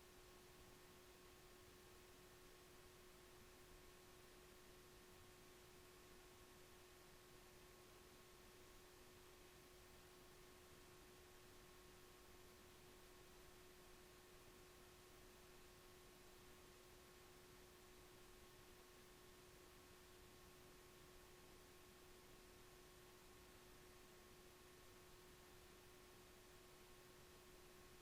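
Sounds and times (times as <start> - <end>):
faint two-tone hum: 0.0 - 28.0.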